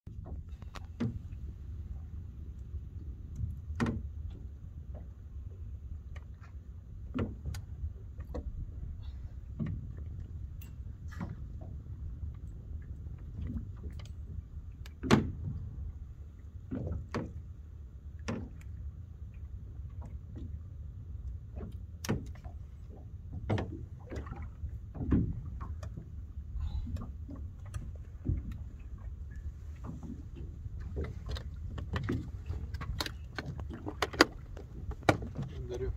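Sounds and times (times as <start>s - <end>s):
steady low rumble: 0.1s - 35.9s
water lapping against boat hull: 0.1s - 35.9s.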